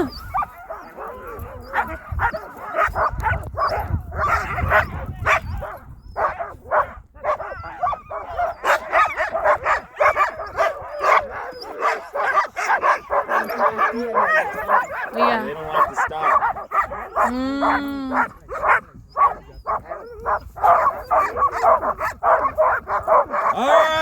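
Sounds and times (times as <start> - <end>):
sled dogs barking and yipping: 0.0 - 24.0.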